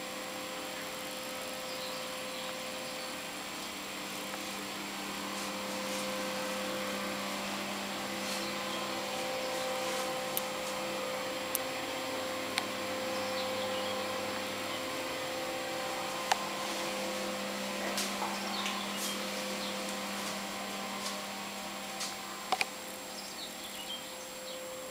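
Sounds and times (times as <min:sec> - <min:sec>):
constant hiss: 0:00.0 - 0:24.9
small motor humming: 0:00.0 - 0:24.9.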